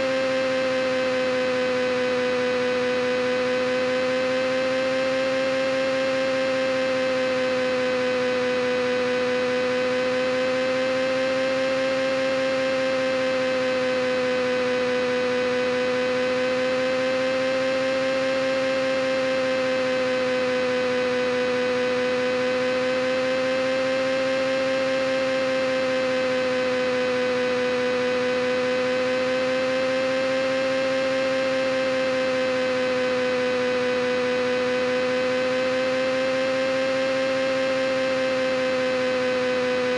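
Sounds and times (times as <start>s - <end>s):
droning hum: 0.0s - 39.9s.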